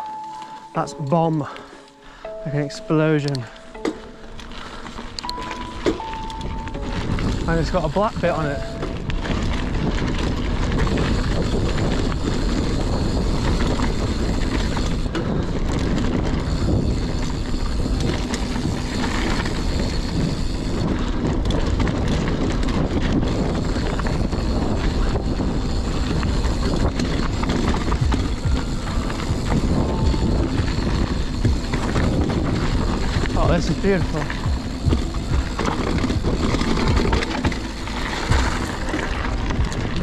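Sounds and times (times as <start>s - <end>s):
bike rattling and clattering: 0.0s - 40.0s
tyres rumbling on dirt: 4.5s - 40.0s.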